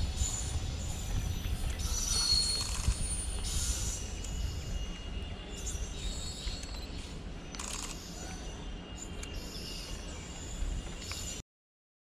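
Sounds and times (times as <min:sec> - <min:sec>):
distant train rumble: 0:00.0 - 0:11.4.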